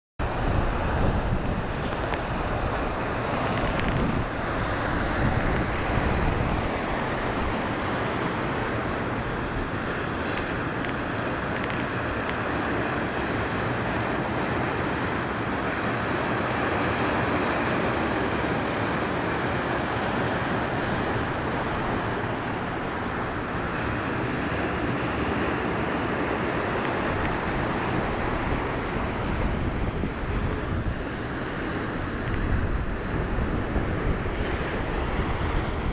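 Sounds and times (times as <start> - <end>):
wind buffeting microphone: 0.2 - 15.8, 18.5 - 35.9
surf breaking on shore: 0.2 - 35.9.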